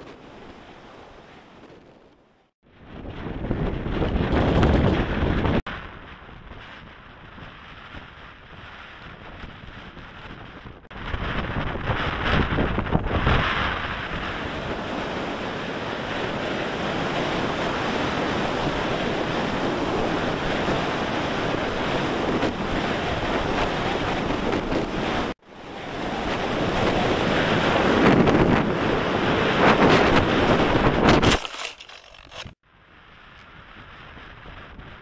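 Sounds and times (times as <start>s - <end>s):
wind rushing over microphone: 0.0s - 31.6s, 32.2s - 35.0s.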